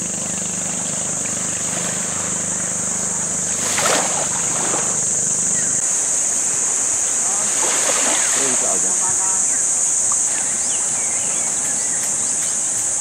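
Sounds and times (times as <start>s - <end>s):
outboard motor running: 0.0s - 13.0s
high-pitched hiss: 0.8s - 13.0s.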